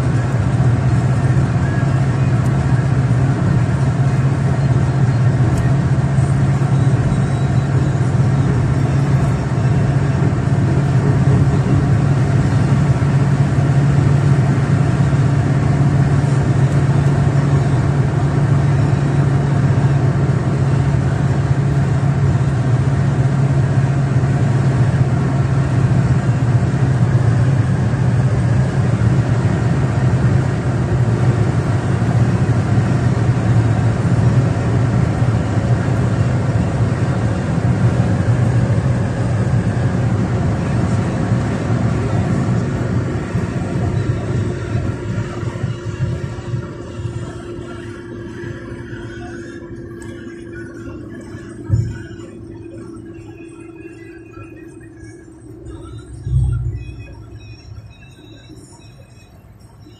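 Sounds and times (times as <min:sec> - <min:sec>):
car engine drone: 0:00.0 - 0:59.9
tyre and road noise: 0:00.0 - 0:59.9.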